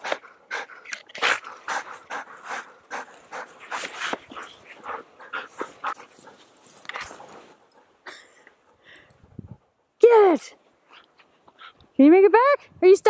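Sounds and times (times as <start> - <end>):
dog panting: 0.0 - 11.8.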